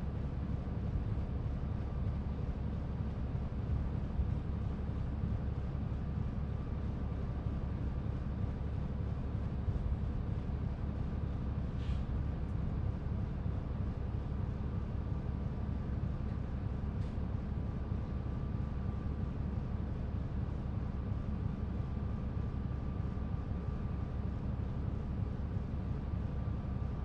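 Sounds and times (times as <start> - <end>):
bus diesel engine idling: 0.0 - 27.0.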